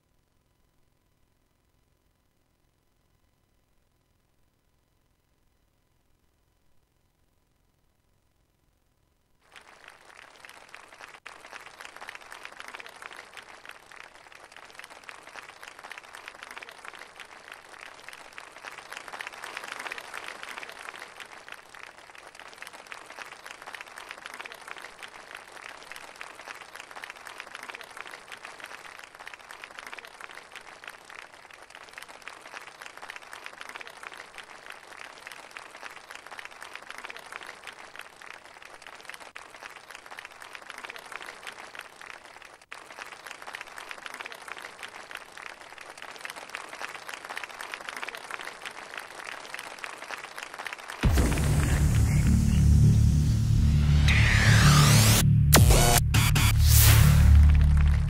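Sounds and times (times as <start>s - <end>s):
audience applauding: 9.4s - 58.0s.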